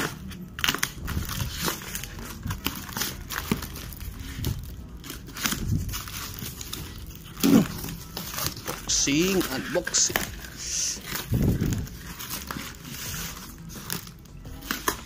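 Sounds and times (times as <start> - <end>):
cardboard box tearing and crinkling: 0.0 - 15.0.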